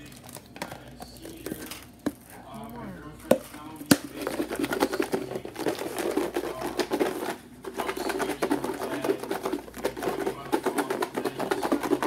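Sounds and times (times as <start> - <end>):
plastic containers clattering: 0.0 - 2.4, 3.2 - 12.0.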